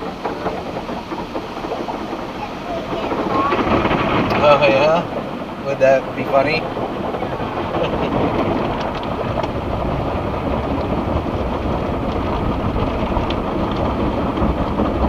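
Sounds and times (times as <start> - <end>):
car wash water spray: 0.0 - 15.0.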